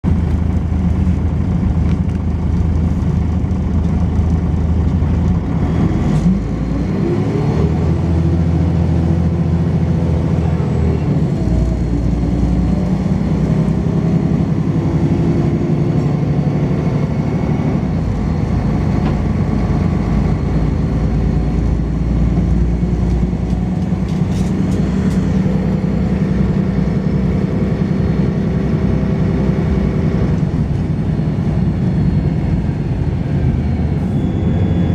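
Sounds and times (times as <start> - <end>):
bus diesel engine under load: 0.0 - 34.9.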